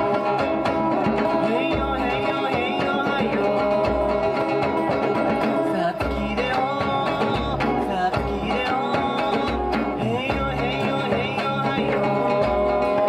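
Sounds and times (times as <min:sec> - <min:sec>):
hand drums: 0:00.0 - 0:13.0
person singing: 0:00.0 - 0:13.0
strummed acoustic guitar: 0:00.0 - 0:13.0.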